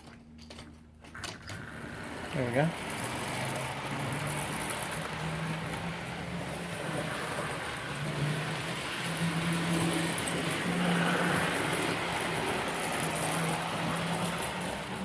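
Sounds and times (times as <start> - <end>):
wheels rattling on rails: 0.0 - 15.0
small electric motor whirring: 1.8 - 15.0.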